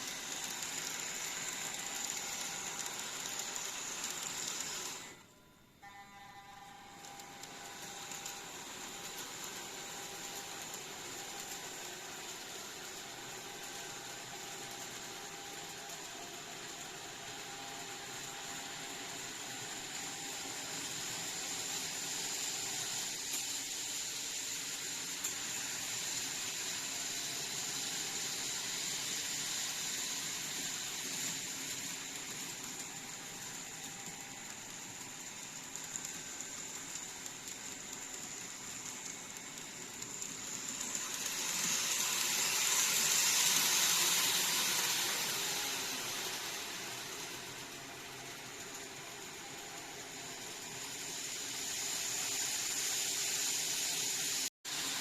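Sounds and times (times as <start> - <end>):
model train running on track: 0.0 - 55.0.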